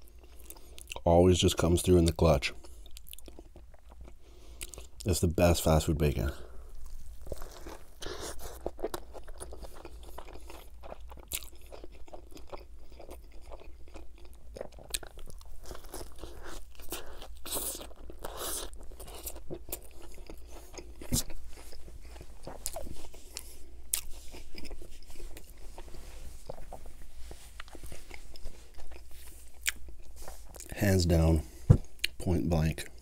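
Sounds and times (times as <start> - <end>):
chewing and biting burger: 2.6 - 5.1, 6.5 - 30.8.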